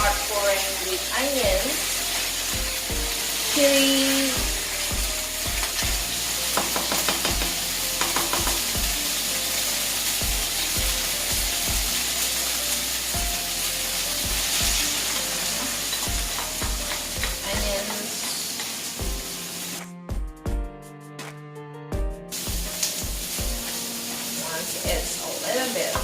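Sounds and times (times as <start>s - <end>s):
onions sizzling in a pan: 0.0s - 19.8s, 22.3s - 26.0s.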